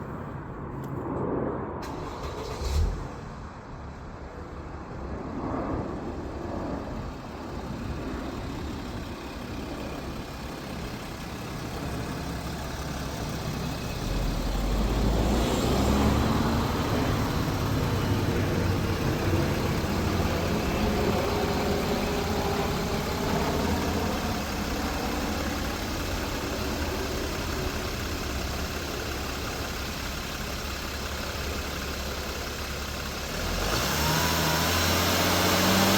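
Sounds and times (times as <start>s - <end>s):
diesel engine starting and idling: 1.8s - 5.1s, 6.0s - 35.9s.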